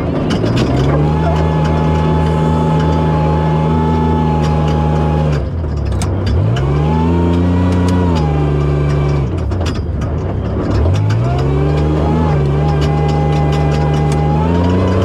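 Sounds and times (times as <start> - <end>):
clicks and knocks: 0.0 - 15.0
truck engine revving: 0.0 - 15.0.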